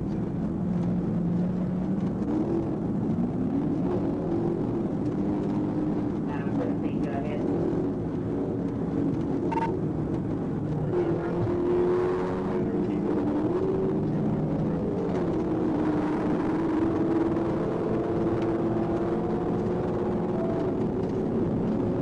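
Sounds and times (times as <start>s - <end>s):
car engine at highway speed: 0.0s - 22.0s
tyre road noise: 0.0s - 22.0s.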